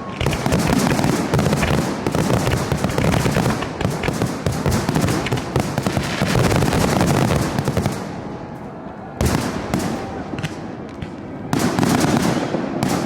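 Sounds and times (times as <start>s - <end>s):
firework bangs and crackling: 0.0s - 13.0s.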